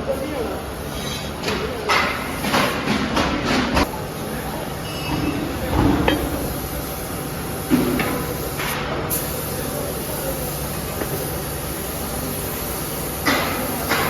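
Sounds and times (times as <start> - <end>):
workshop machinery noise: 0.0 - 14.0.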